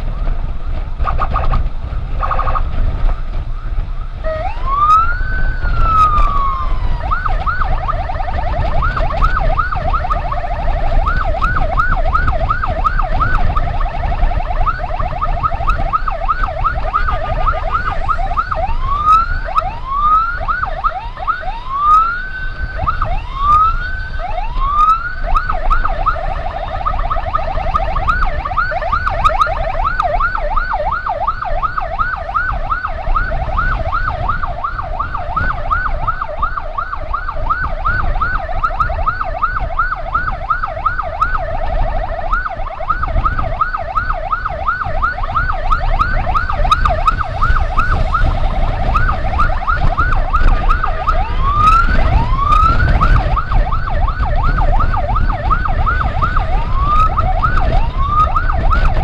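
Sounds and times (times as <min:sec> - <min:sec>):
emergency siren yelping and wailing: 0:00.0 - 0:59.0
wind and road noise: 0:00.0 - 0:59.0.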